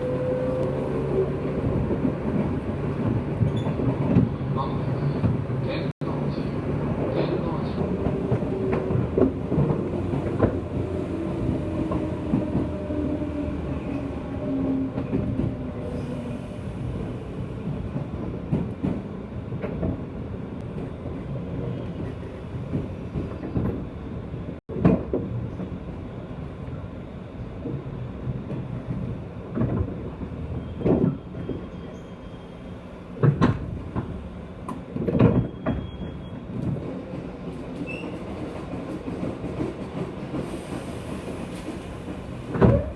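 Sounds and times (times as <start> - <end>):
train wheels rumbling: 0.0 - 26.0, 27.6 - 42.9.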